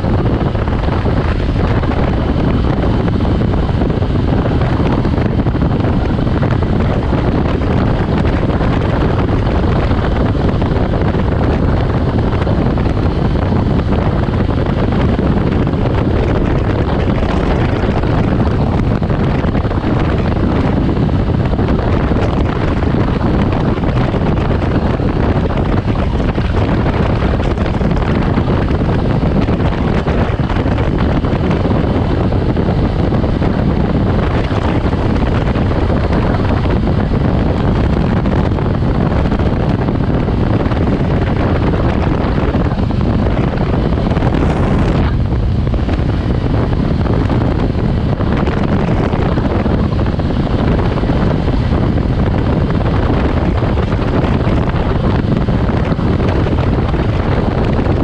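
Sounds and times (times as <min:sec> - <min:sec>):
motorcycle engine: 0:00.0 - 0:58.0
road noise: 0:00.0 - 0:58.0
wind roaring over microphone: 0:00.0 - 0:58.0.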